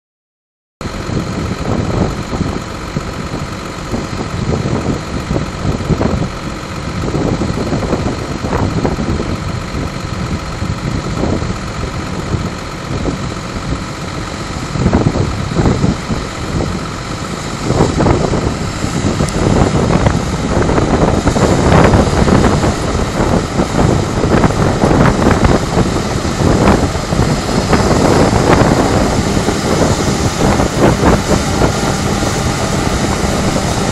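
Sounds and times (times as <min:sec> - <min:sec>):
harvester machinery drone: 0:00.8 - 0:33.9
high whine: 0:00.8 - 0:33.9.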